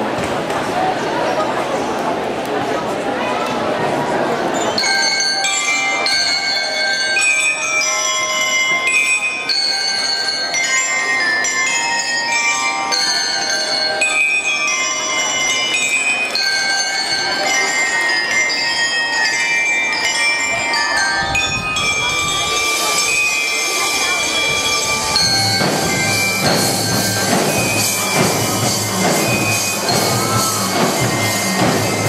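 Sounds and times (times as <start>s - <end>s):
crowd chatter: 0.0s - 32.0s
bell lyres playing a melody: 3.9s - 32.0s.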